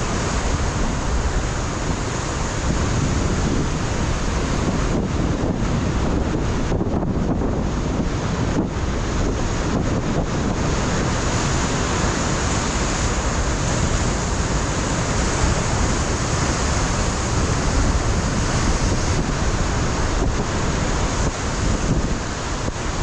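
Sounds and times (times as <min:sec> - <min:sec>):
surf breaking on rocky shore: 0:00.0 - 0:23.0
wind buffeting microphone: 0:00.0 - 0:23.0.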